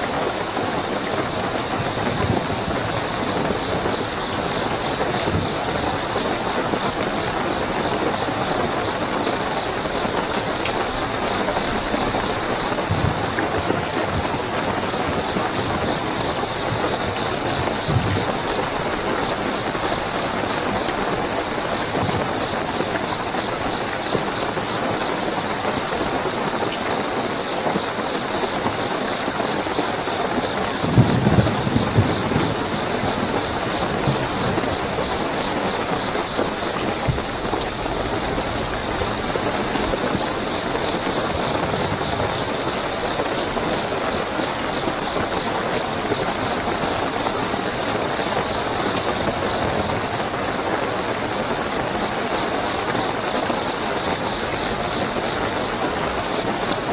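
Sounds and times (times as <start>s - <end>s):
crickets trilling: 0.0s - 56.9s
heavy rainfall: 0.0s - 56.9s.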